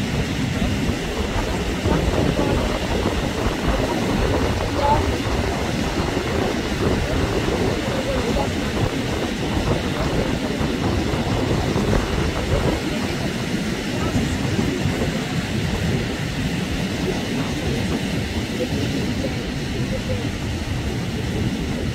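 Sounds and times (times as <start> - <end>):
surf breaking on shore: 0.0 - 21.9
wind on microphone: 0.0 - 21.9.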